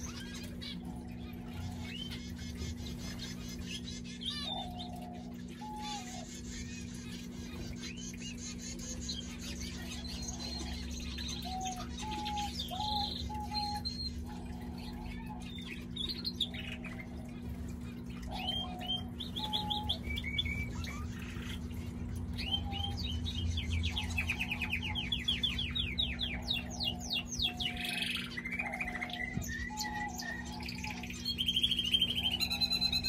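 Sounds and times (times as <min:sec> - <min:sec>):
canary singing: 0:00.0 - 0:33.0
steady low hum: 0:00.0 - 0:33.0.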